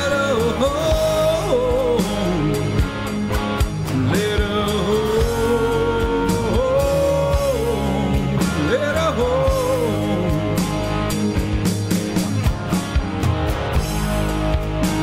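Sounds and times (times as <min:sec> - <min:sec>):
lead guitar bending notes: 0:00.0 - 0:15.0
rock band playing instrumental: 0:00.0 - 0:15.0.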